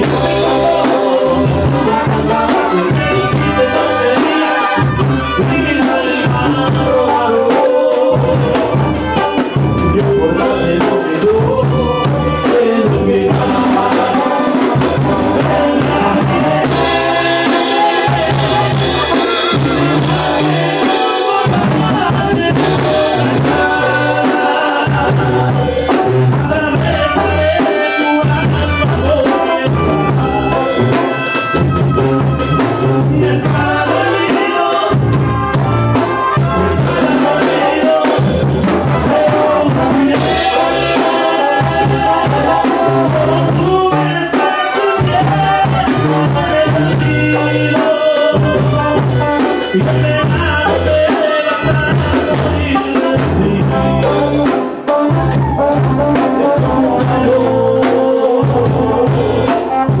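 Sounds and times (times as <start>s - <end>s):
brass band playing: 0.0s - 60.0s
drums: 0.0s - 60.0s
tuba bass line: 0.0s - 60.0s.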